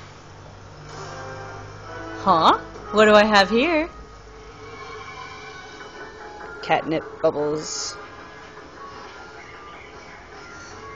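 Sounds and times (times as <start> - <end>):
faint television background music: 0.0 - 10.9.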